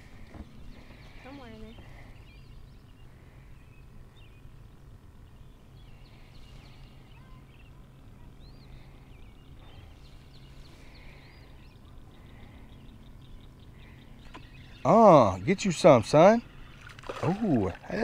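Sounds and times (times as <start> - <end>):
birds singing and chirping: 0.0 - 18.0.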